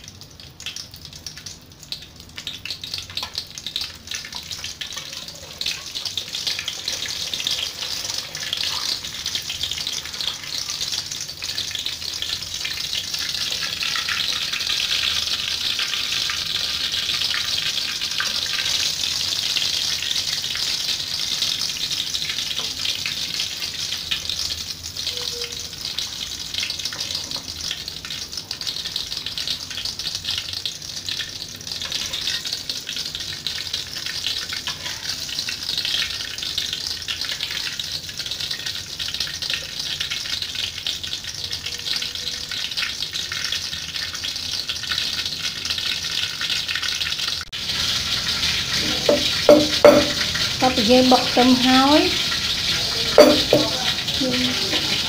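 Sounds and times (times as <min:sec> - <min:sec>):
fish sizzling in oil: 0:00.0 - 0:55.0.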